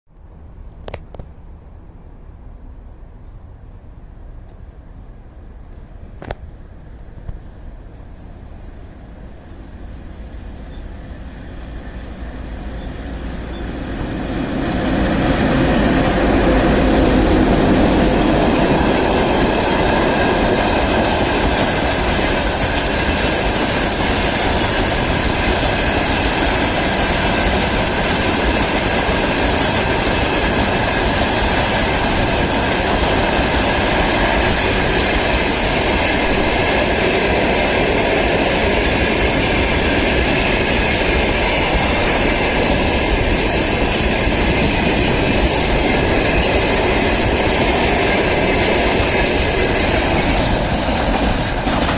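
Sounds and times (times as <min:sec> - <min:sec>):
rail joint clicks: 0:00.2 - 0:01.6, 0:03.2 - 0:04.9, 0:05.5 - 0:51.9
train wheels rolling on rails: 0:03.1 - 0:51.9.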